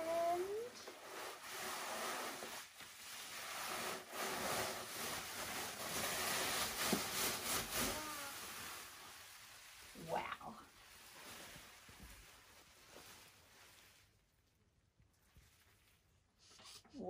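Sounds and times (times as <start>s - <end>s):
bubble wrap rustling and crinkling: 0.0s - 16.5s.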